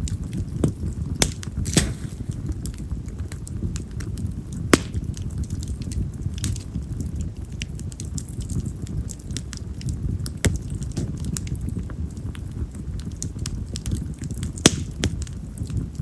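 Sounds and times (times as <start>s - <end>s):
fire flame rumbling: 0.0s - 16.0s
firewood crackling pops: 0.0s - 16.0s.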